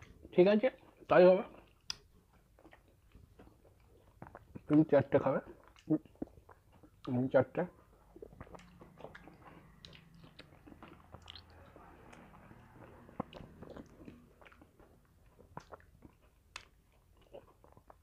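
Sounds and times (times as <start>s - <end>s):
chewing and biting: 0.0s - 7.2s, 7.8s - 18.0s
wet mouth sounds: 1.6s - 7.2s, 7.8s - 18.0s.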